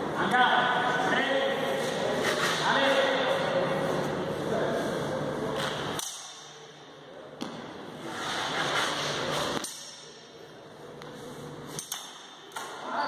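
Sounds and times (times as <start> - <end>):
sports hall reverberant noise: 0.0 - 13.0.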